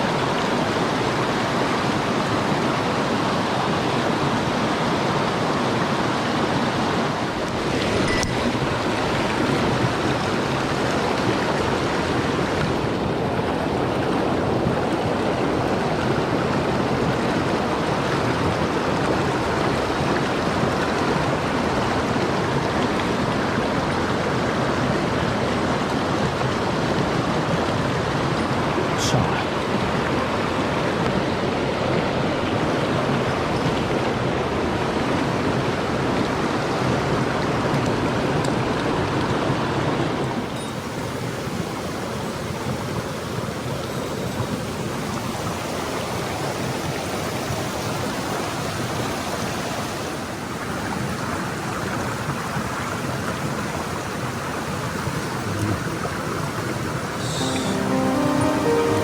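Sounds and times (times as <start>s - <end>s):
stream water flowing: 0.0s - 59.0s.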